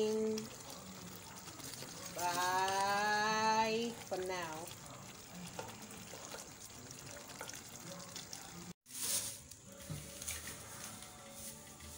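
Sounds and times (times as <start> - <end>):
beans simmering and bubbling: 0.0 - 11.9.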